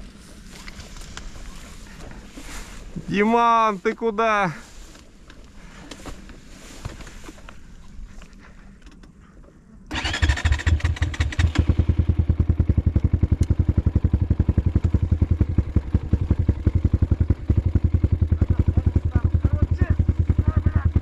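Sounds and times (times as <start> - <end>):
off-road motorcycle engine: 0.0 - 21.0.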